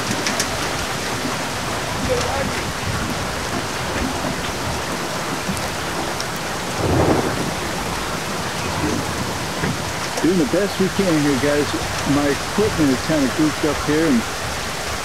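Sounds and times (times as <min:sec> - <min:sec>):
sharp raindrop ticks: 0:00.0 - 0:14.4
heavy rain on pavement and water: 0:00.0 - 0:15.0.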